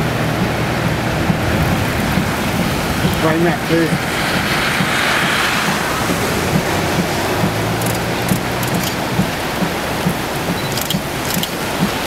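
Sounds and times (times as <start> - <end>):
storm wind gusting: 0.0 - 12.0.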